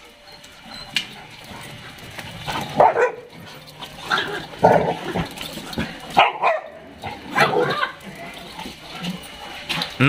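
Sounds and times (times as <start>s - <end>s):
dogs play-fighting: 0.0s - 10.0s
dogs barking: 0.3s - 10.0s.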